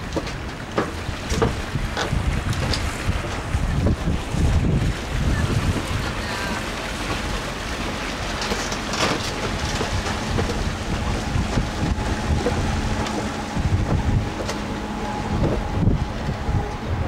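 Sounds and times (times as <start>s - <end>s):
faint engine hum: 0.0s - 17.0s
water rushing past boat: 0.0s - 17.0s
wind buffeting microphone: 0.0s - 17.0s.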